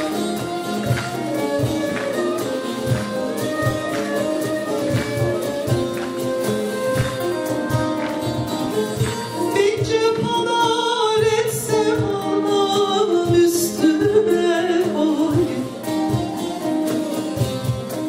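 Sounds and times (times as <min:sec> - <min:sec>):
hand drum and frame drum beat: 0:00.0 - 0:18.0
saz melody: 0:00.0 - 0:18.0.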